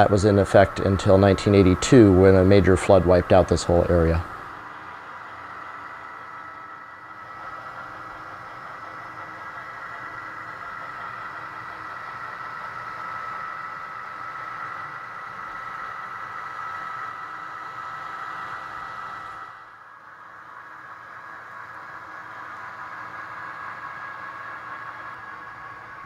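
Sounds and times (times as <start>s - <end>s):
constant high whine: 0.0s - 26.0s
model locomotive engine sound: 0.0s - 26.0s.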